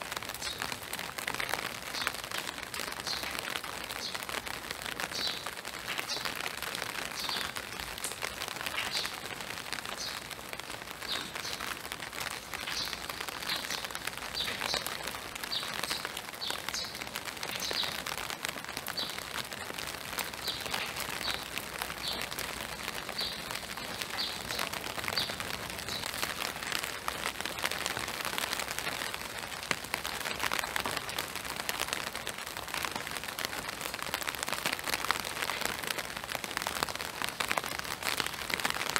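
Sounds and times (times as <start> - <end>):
rain falling on woodland: 0.0 - 38.9.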